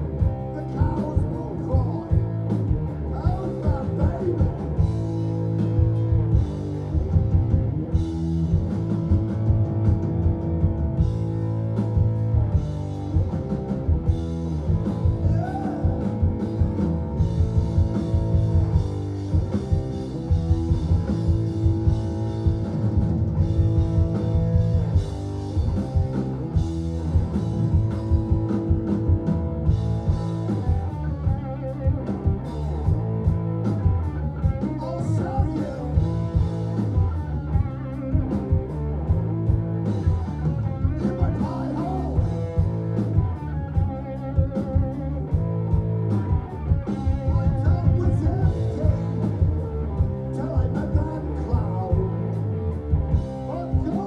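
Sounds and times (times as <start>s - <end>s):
bass guitar: 0.0s - 54.0s
drum kit beat: 0.0s - 54.0s
electric guitar: 0.0s - 54.0s.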